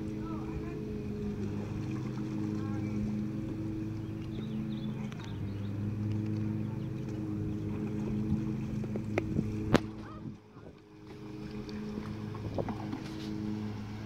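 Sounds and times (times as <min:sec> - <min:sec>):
motorboat engine humming: 0:00.0 - 0:14.0.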